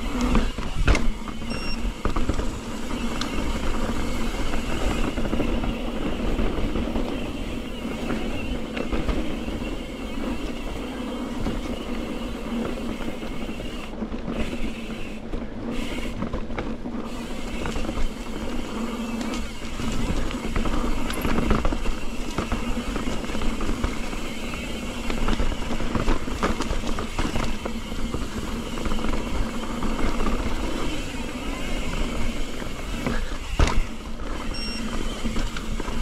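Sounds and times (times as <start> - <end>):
bike knocks and rattles: 0.0 - 36.0
tyre noise on dirt: 0.0 - 36.0
wind over microphone: 0.0 - 36.0.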